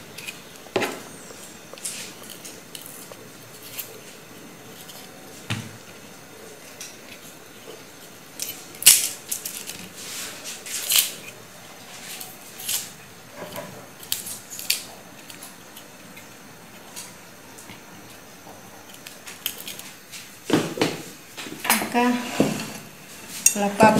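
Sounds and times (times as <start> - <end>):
garlic skins crackling: 0.0 - 20.5.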